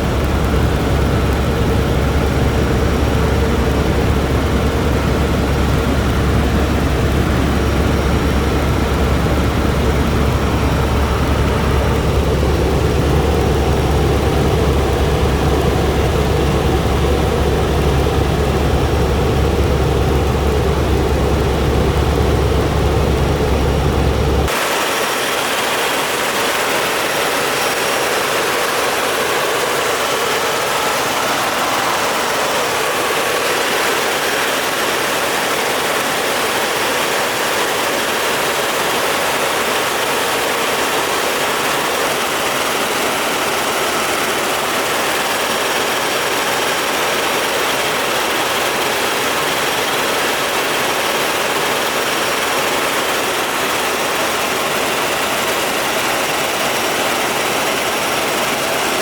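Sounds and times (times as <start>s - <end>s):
helicopter flying: 0.0s - 59.0s.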